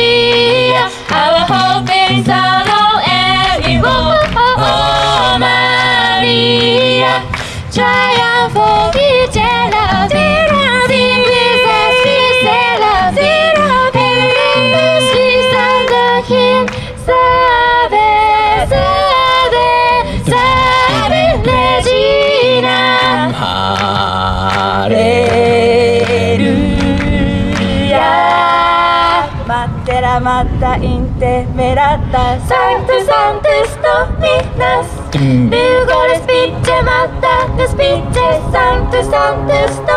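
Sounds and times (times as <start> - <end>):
a cappella group singing: 0.0 - 39.9.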